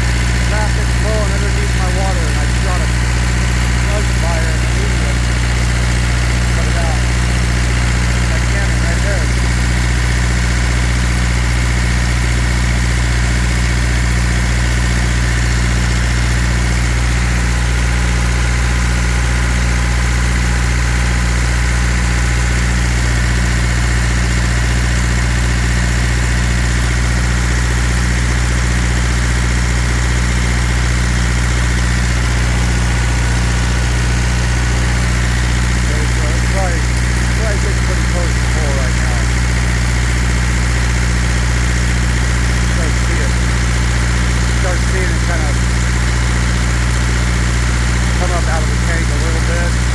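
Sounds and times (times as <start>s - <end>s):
truck engine idling: 0.0s - 49.9s.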